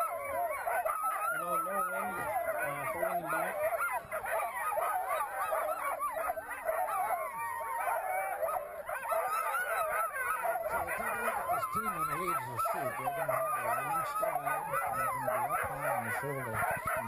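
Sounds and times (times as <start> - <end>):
dogs yelping barking and howling: 0.0 - 17.0.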